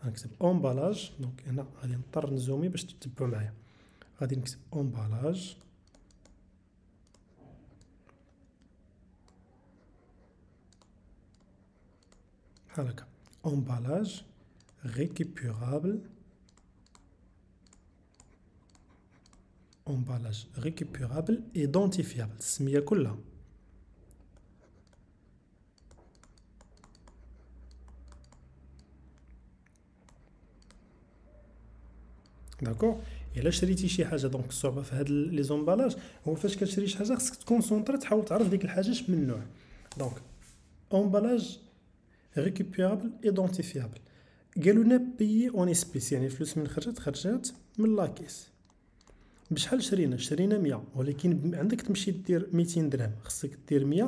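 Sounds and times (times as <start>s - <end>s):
faint steady low hum: 0.0s - 54.0s.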